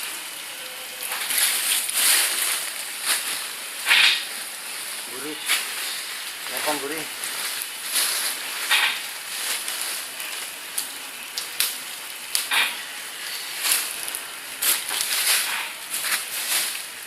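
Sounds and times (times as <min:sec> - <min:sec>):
plastic and paper sack crackling: 0:01.0 - 0:17.0.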